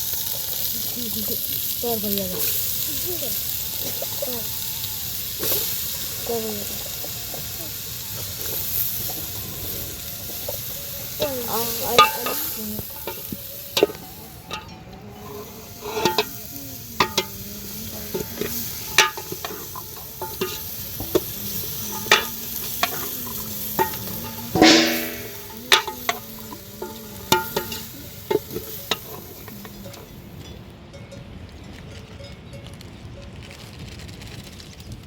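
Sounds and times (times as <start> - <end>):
food sizzling in a pan: 0.0 - 30.4
metal utensil scraping pan: 1.4 - 30.2.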